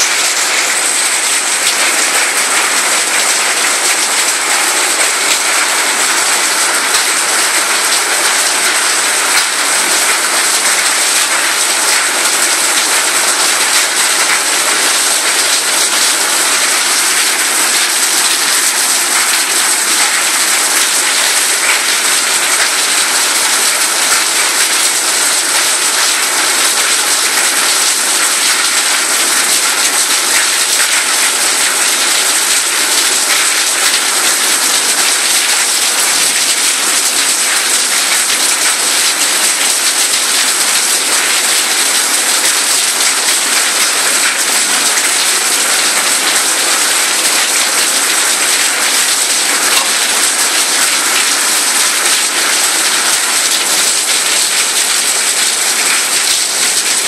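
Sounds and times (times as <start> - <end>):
rain on roofs and pavement: 0.0 - 57.0.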